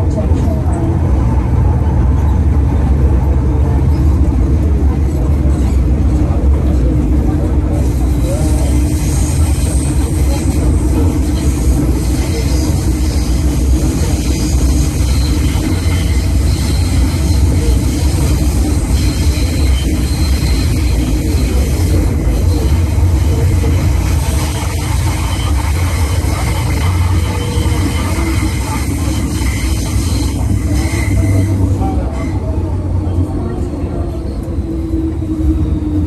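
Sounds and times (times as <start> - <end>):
train rumbling on track: 0.0 - 36.0.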